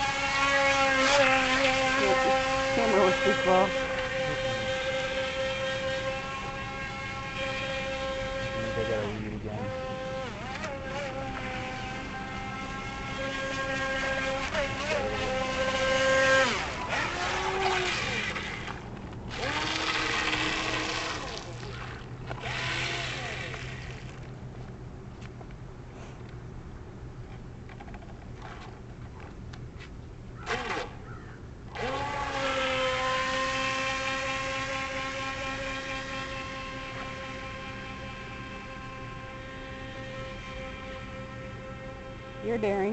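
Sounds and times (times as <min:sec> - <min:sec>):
electric motor whining: 0:00.0 - 0:24.3, 0:30.4 - 0:31.0, 0:31.7 - 0:42.9.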